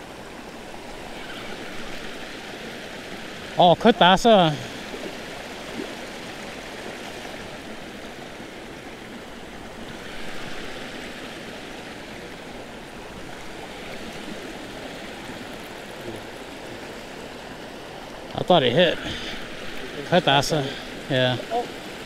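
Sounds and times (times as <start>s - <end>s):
creek water rushing over rocks: 0.0s - 22.0s.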